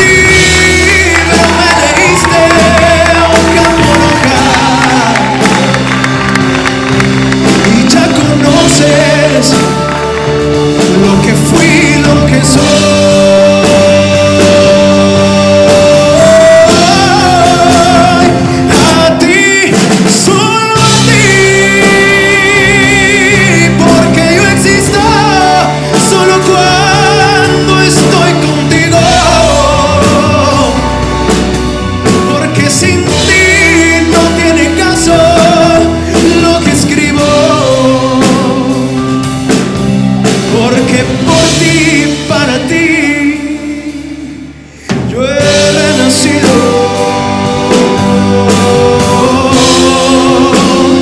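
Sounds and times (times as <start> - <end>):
band playing slow ballad: 0.0 - 51.0
man singing: 0.0 - 51.0.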